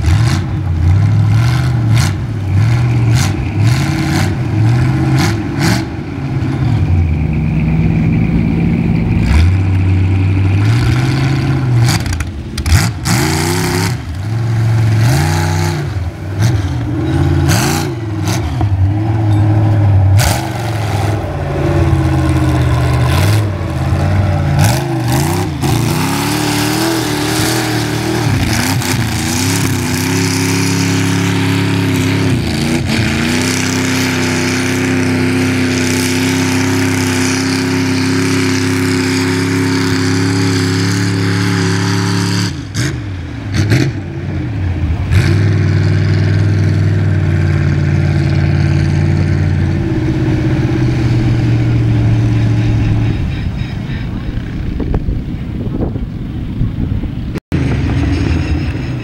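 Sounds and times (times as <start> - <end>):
tires spinning in mud: 0.0 - 59.0
truck engine revving: 0.0 - 59.0.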